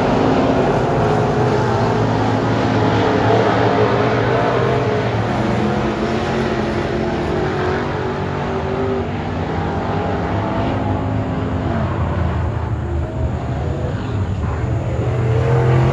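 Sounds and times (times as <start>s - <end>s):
race car engines running: 0.0s - 15.9s.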